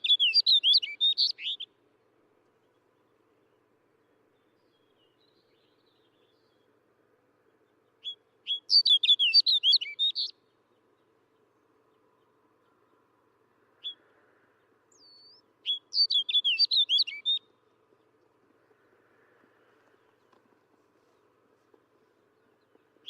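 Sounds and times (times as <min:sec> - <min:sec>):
snow bunting singing: 0:00.0 - 0:23.0.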